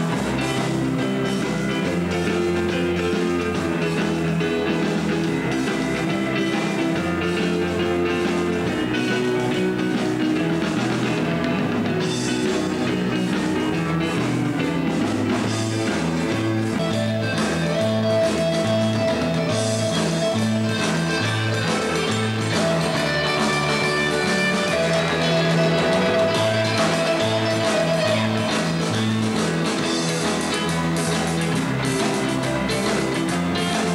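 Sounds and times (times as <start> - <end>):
bass line: 0.0 - 33.9
live rock band playing: 0.0 - 33.9.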